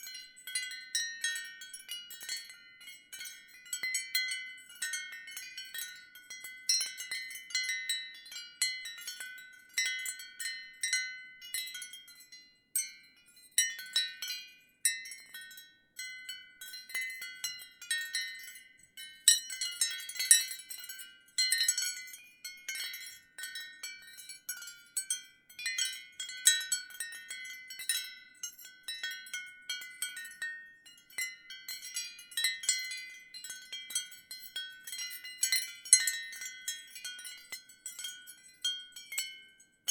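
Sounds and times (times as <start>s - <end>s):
ceramic wind chimes clinking: 0.0s - 39.9s.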